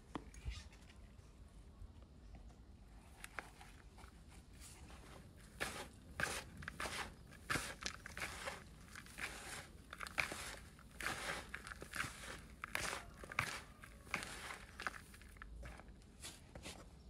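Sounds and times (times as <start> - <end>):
crunching and rustling: 3.0 - 16.8.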